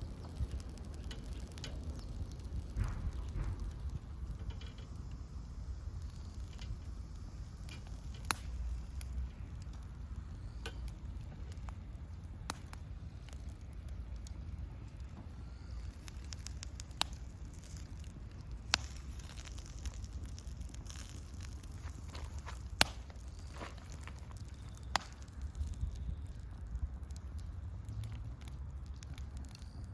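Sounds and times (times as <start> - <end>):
steady low rumble: 0.0 - 29.6
sharp fire pops: 0.0 - 29.9
wood fire crackling: 0.0 - 29.9.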